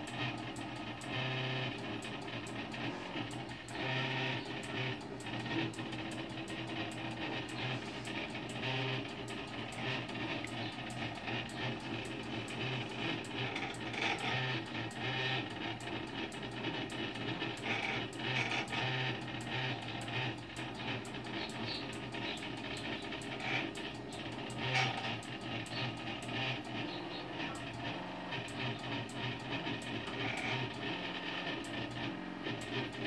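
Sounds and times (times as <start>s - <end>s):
stepper motors whining: 0.0s - 33.0s.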